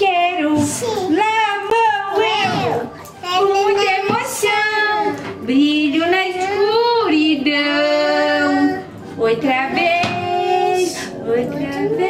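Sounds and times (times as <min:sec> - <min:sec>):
woman and girl singing: 0:00.0 - 0:02.7, 0:03.3 - 0:12.0.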